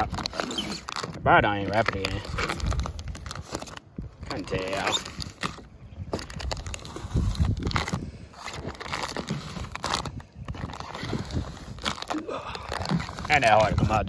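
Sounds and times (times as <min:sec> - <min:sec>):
vinyl film peeling and crackling: 0:00.0 - 0:14.0.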